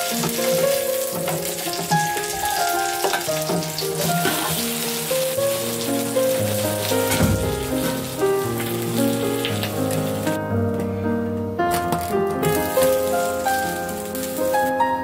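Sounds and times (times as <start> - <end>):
cake sizzling in hot oil: 0.0 - 10.4, 12.4 - 14.8
background music: 0.0 - 15.0.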